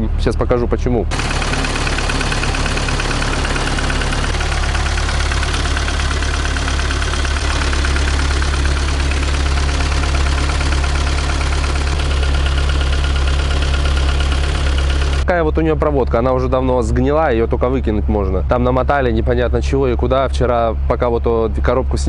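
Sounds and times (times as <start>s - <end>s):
car engine idling: 1.1s - 21.8s.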